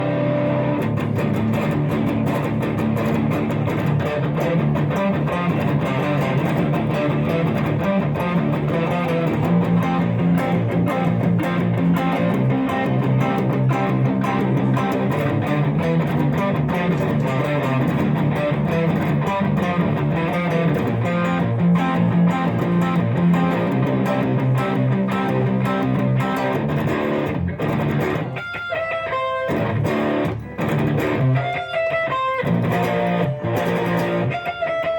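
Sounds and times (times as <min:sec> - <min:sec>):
electric guitar through amplifier: 0:00.0 - 0:34.9.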